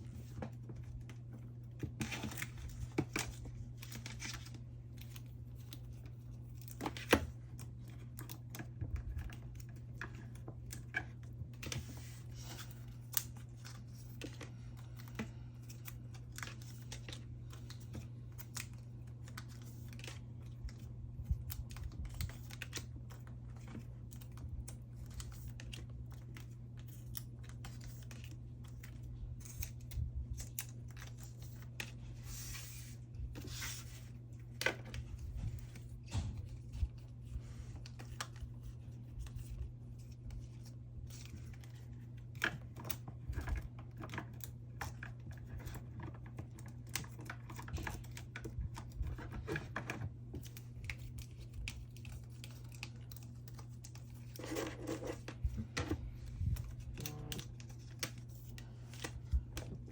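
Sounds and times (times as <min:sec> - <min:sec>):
steady low hum: 0:00.0 - 0:59.9
cards and plastic clicking: 0:00.1 - 0:59.9.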